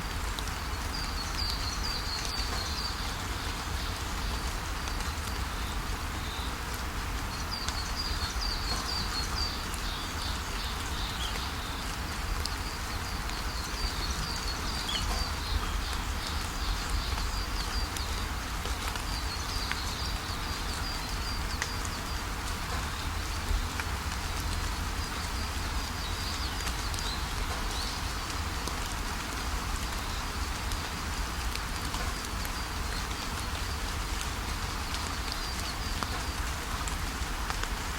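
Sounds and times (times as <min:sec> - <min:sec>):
rain pattering: 0:00.0 - 0:37.9.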